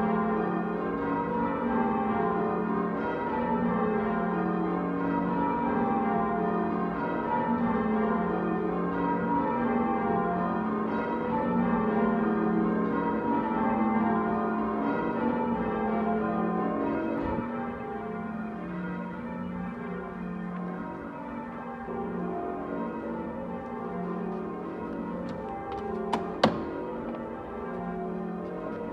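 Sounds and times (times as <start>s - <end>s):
church bells ringing: 0.0s - 28.9s.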